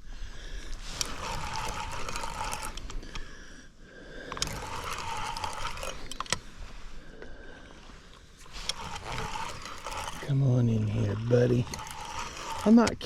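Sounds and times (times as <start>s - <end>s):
fishing reel cranking: 0.5s - 13.0s.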